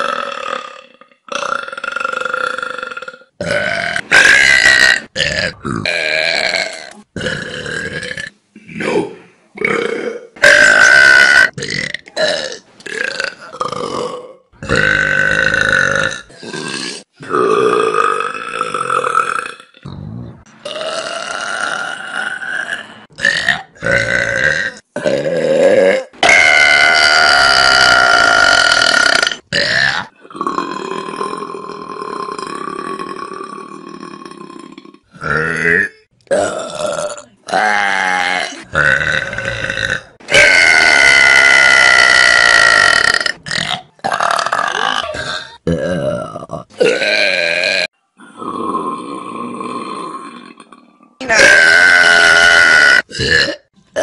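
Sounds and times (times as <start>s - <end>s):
people burping: 0.0s - 54.0s.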